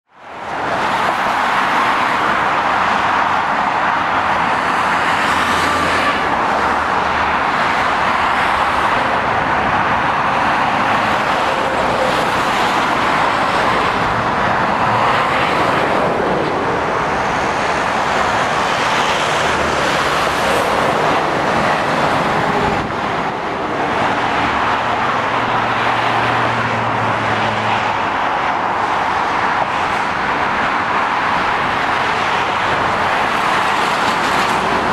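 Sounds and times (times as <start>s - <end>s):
tyre noise of passing traffic: 0.0s - 34.9s
diesel engine drone: 0.1s - 34.9s.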